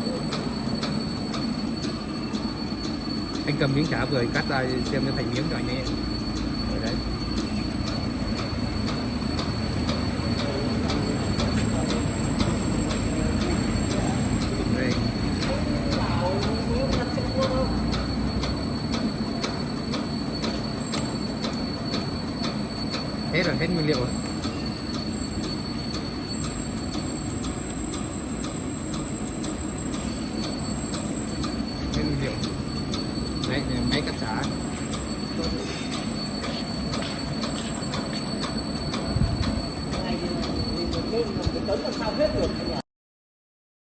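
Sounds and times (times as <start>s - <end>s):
machine motor hum and whine: 0.0s - 42.8s.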